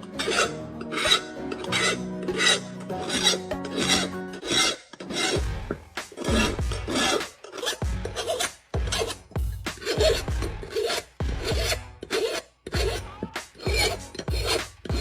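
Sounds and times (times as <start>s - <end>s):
background music: 0.0s - 15.0s
hand tool rasping: 0.0s - 15.0s.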